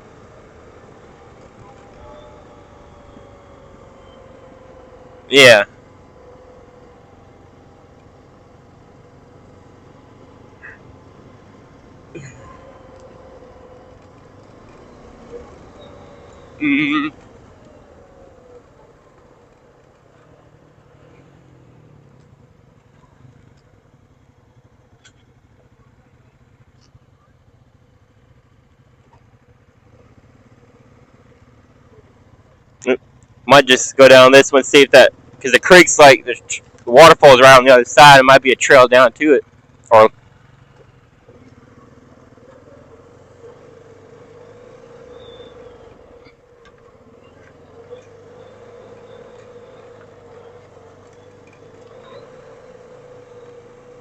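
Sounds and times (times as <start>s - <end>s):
faint atv engine running: 0.0s - 54.0s.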